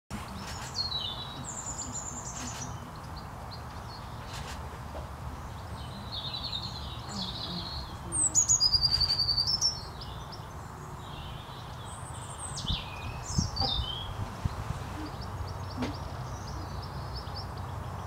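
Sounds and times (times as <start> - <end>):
low steady background rumble: 0.1 - 18.0
songbirds chirping and trilling: 0.1 - 18.0.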